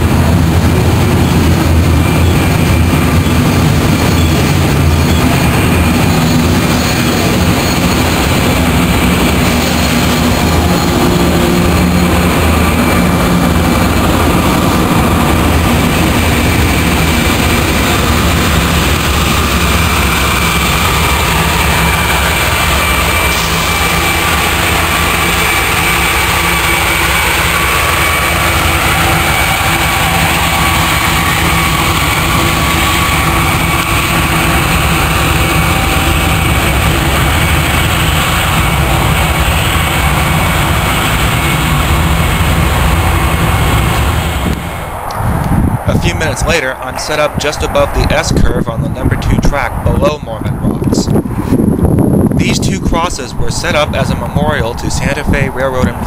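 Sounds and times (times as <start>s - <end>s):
diesel engine hum: 0.0s - 56.0s
thin steady whine: 0.0s - 56.0s
train wheels rumbling on rail: 0.0s - 56.0s.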